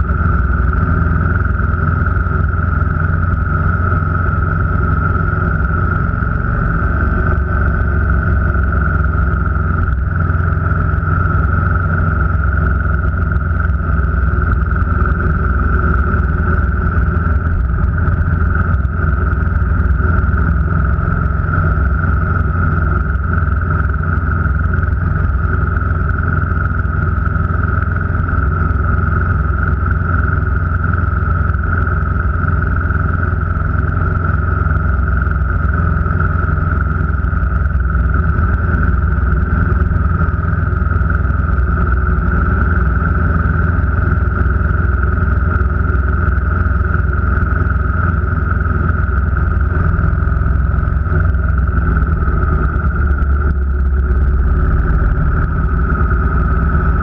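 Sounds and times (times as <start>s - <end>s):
higher constant hum: 0.0s - 57.0s
vehicle engine and road drone: 0.0s - 57.0s.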